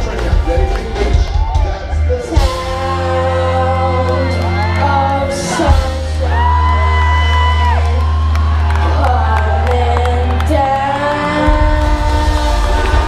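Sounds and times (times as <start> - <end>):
heavy bass: 0.0 - 13.0
live band music: 0.0 - 13.0
crowd shouting and whooping: 0.2 - 13.0.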